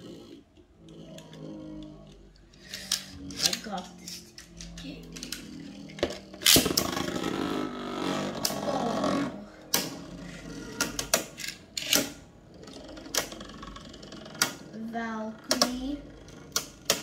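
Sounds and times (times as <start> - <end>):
spinning top whirring: 0.0 - 17.0.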